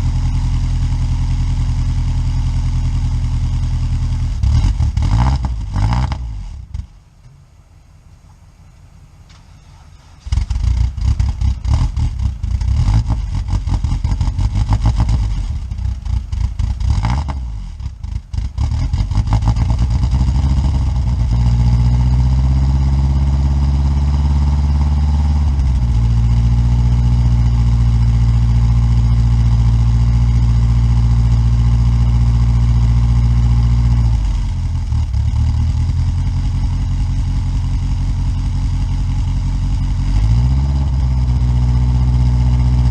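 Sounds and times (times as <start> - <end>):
car engine cranking and idling: 0.0 - 42.9.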